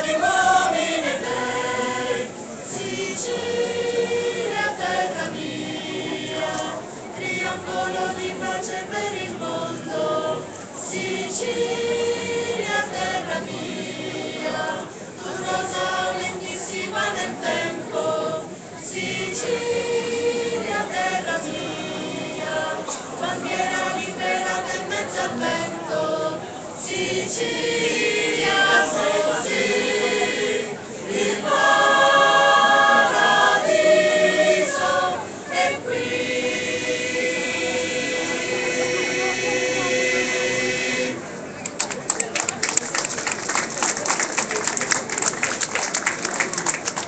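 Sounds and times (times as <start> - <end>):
mixed choir singing: 0.0 - 41.5.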